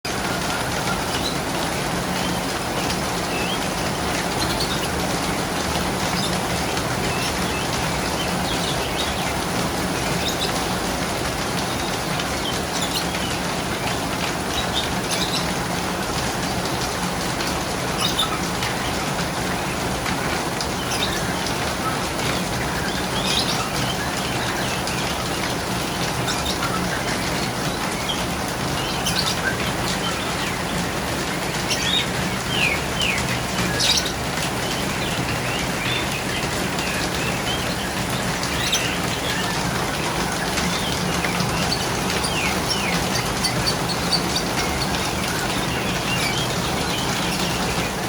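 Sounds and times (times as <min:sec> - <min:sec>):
birds chirping: 0:00.1 - 0:48.0.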